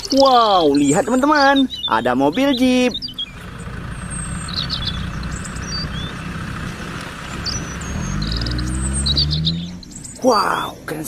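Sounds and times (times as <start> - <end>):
birds chirping: 0.0 - 11.0
engine rumbling: 0.0 - 11.0.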